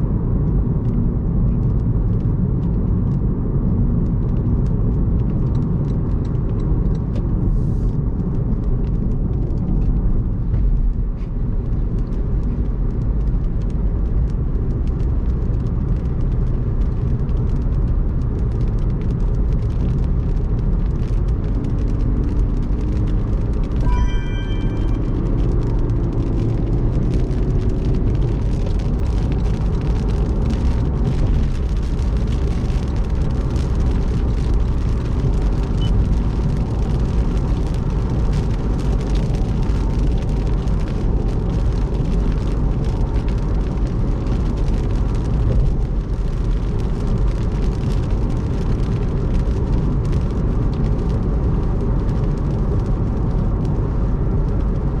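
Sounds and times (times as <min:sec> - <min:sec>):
car tyres on wet road: 0:00.0 - 0:55.0.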